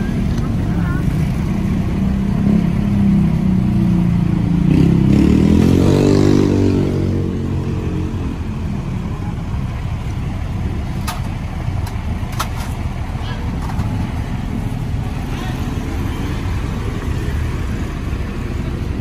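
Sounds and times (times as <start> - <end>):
street noise: 0.0 - 19.0.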